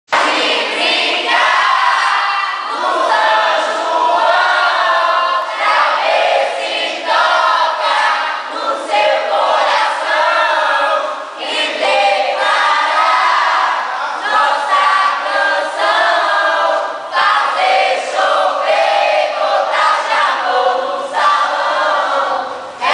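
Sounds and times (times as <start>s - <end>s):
many voices singing together: 0.1s - 22.9s.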